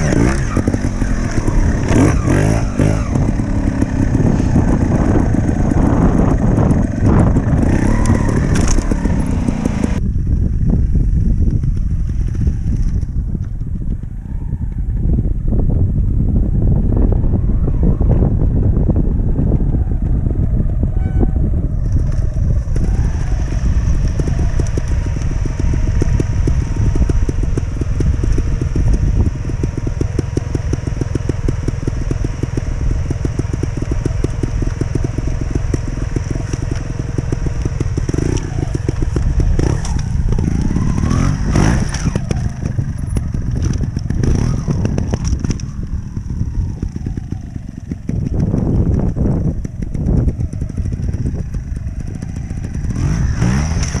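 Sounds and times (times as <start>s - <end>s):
motorcycle engine running: 0.0s - 54.0s
motorcycle throttle blips: 0.0s - 54.0s.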